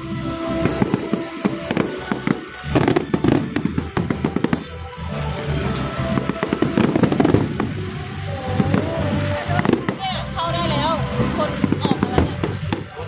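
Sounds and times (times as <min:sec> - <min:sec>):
fireworks bangs and crackles: 0:00.0 - 0:13.0
music playing: 0:00.0 - 0:13.0.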